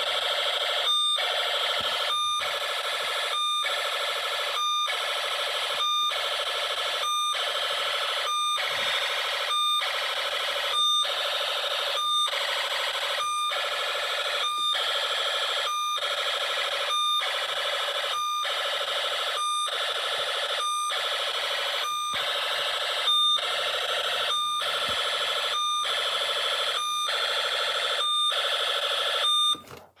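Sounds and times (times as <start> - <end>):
pulsing electronic alarm buzz: 0.0 - 29.6.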